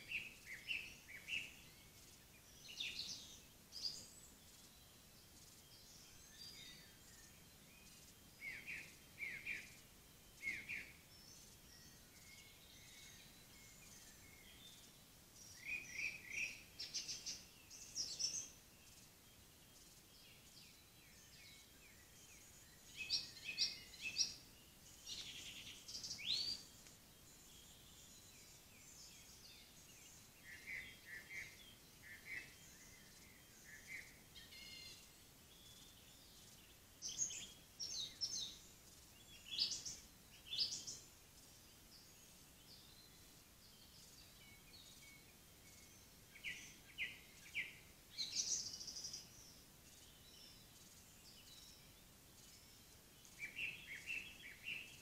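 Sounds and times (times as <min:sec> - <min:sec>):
songbirds chirping and whistling: 0:00.0 - 0:55.0.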